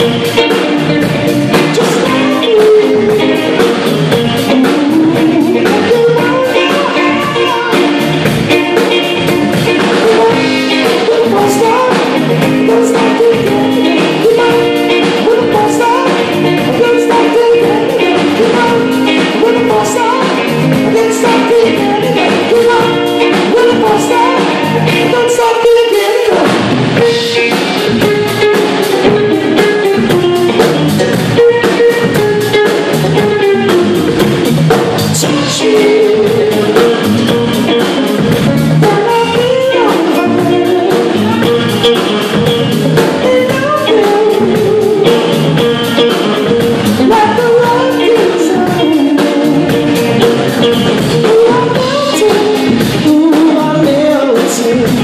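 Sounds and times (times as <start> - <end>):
bass guitar: 0.0 - 55.0
drum kit: 0.0 - 55.0
electric guitar: 0.0 - 55.0
person singing: 0.0 - 55.0.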